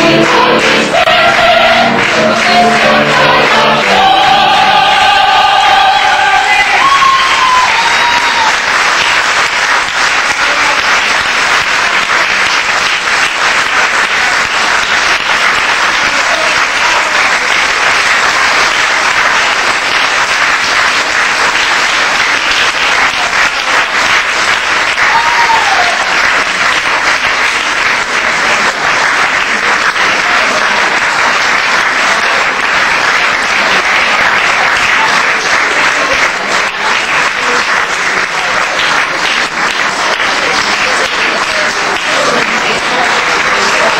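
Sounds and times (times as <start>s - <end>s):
audience applauding: 0.0s - 43.9s
calls from audience: 0.0s - 43.9s.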